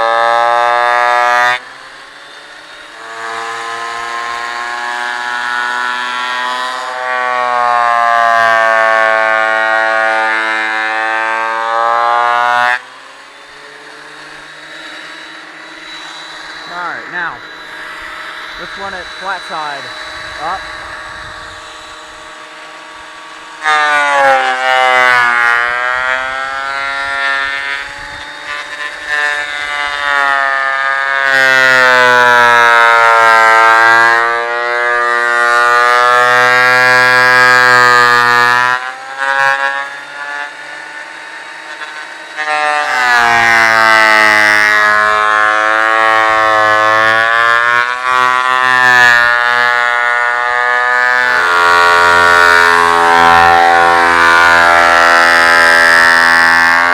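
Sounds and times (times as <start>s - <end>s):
thickness planer whining: 0.0s - 56.9s.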